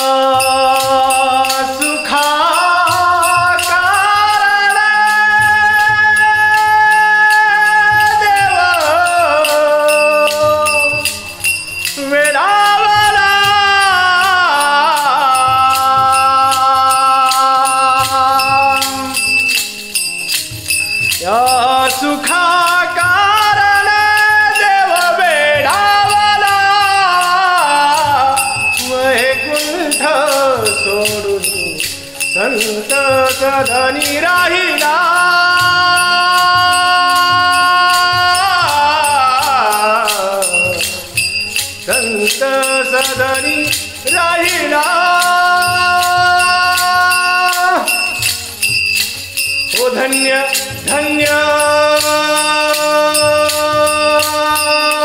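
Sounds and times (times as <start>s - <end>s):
jingling hand percussion: 0.0s - 55.0s
person singing devotional song: 0.0s - 55.0s.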